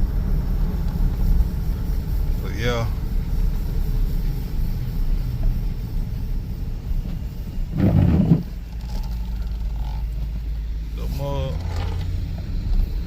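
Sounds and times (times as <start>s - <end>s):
engine rumbling inside car: 0.0s - 13.0s.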